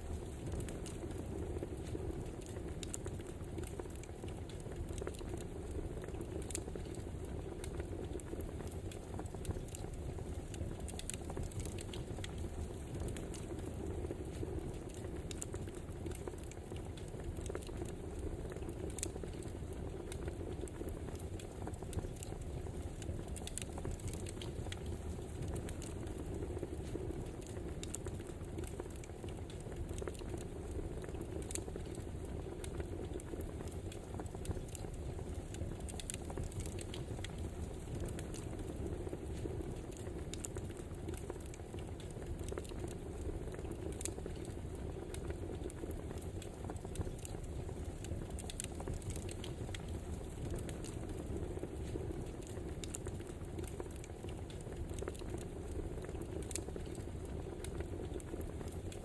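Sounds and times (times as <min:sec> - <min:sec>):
logs crackling and popping: 0:00.0 - 0:59.0
wood fire rumbling and hissing: 0:00.0 - 0:59.0.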